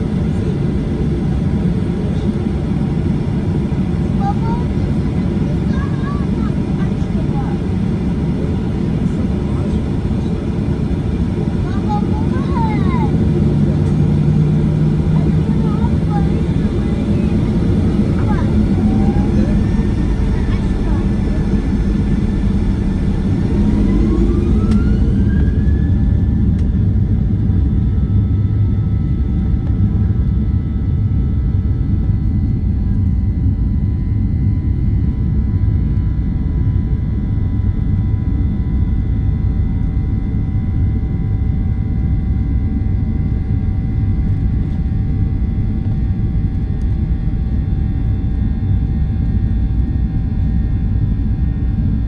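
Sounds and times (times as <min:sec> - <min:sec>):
heavy constant rumble: 0:00.0 - 0:52.0
jet engine whine: 0:00.0 - 0:52.0.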